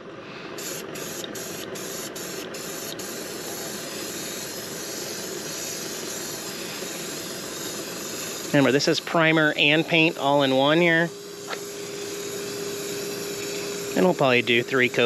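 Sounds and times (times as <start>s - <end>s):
aerosol spray can hissing: 0.6s - 15.0s.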